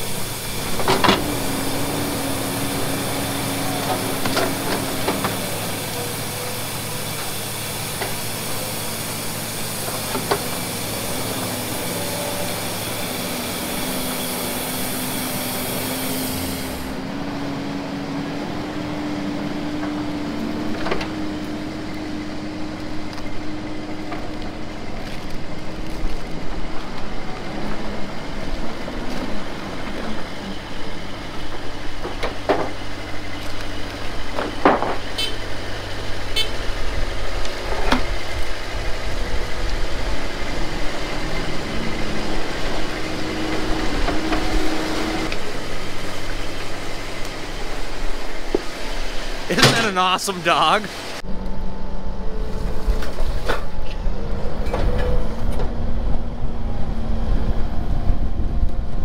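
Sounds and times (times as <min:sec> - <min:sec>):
hiss: 0:00.0 - 0:50.1
diesel engine running: 0:00.0 - 0:59.0.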